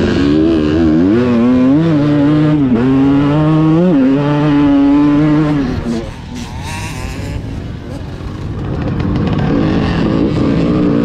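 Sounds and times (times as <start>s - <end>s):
two-stroke motocross engine revving: 0.0s - 11.0s.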